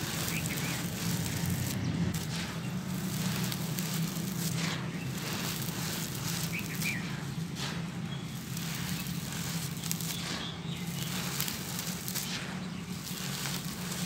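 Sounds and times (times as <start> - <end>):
powder crumbling through hands: 0.0 - 14.0.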